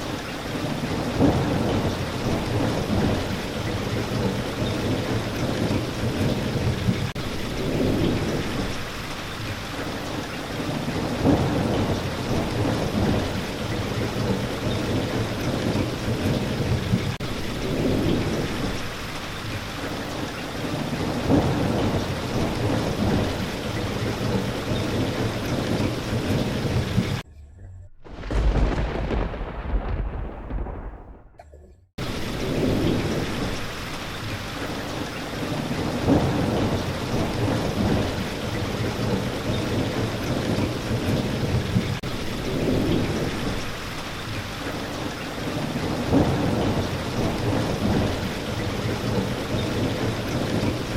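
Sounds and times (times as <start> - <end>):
low rolling thunder: 0.0 - 27.2, 28.0 - 50.9
steady rain: 0.0 - 27.2, 28.0 - 31.4, 32.0 - 50.9.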